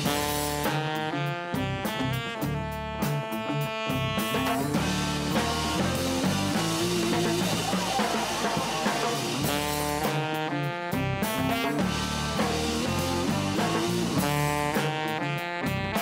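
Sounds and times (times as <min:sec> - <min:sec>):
bass guitar: 0:00.0 - 0:16.0
drum kit with cymbals: 0:00.0 - 0:16.0
electric guitar: 0:00.0 - 0:16.0
saxophone melody: 0:00.0 - 0:16.0.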